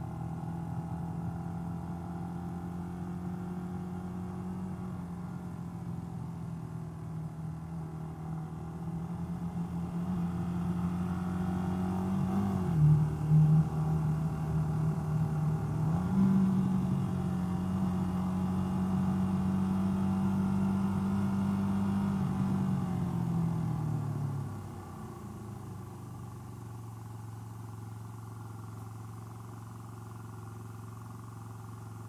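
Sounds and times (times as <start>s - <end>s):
motorcycle engine running: 0.1s - 32.0s.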